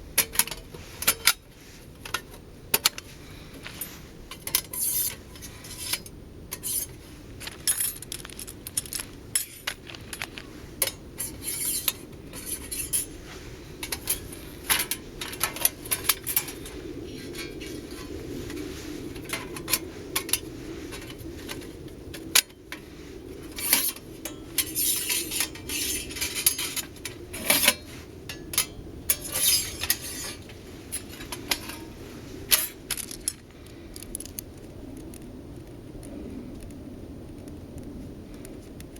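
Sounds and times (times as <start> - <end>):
metal panels clinking and scraping: 0.0 - 34.4
low background hum: 0.0 - 38.9.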